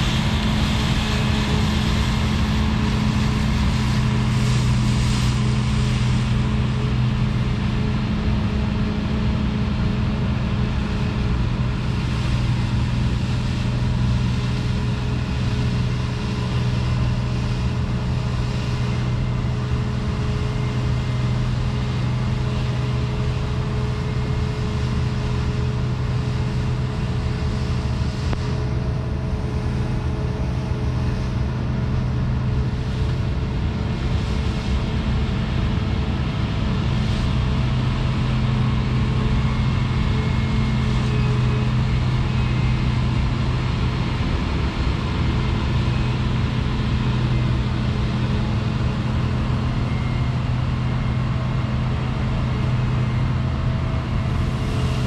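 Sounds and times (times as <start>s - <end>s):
combine harvester drone: 0.0s - 55.0s.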